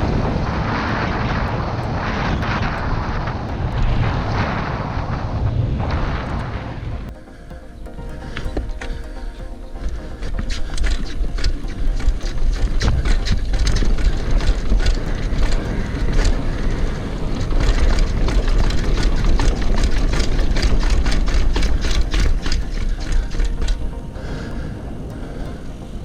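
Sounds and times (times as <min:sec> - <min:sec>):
bike rattling clicks: 0:00.0 - 0:26.0
wind and tyres rumbling: 0:00.0 - 0:26.0.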